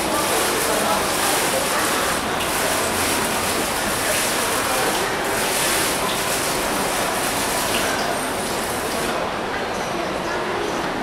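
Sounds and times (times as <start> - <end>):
water falling and splashing: 0.0 - 9.2.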